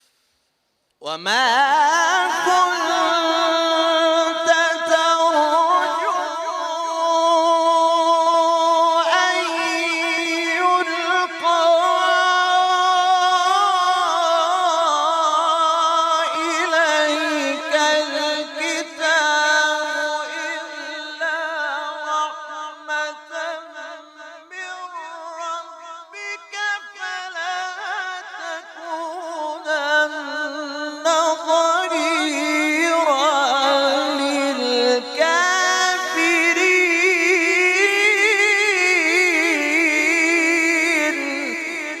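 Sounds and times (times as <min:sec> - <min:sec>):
man chanting: 0:01.0 - 0:42.0.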